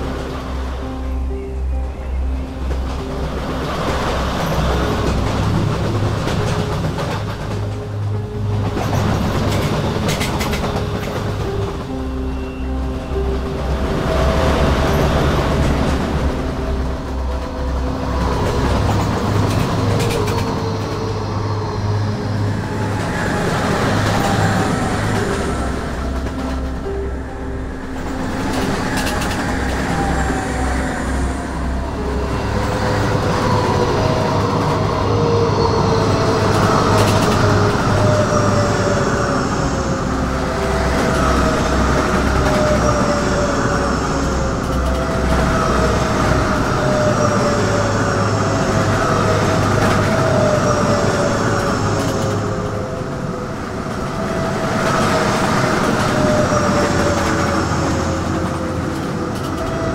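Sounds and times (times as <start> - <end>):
high-speed trains rushing past: 0.0 - 59.9.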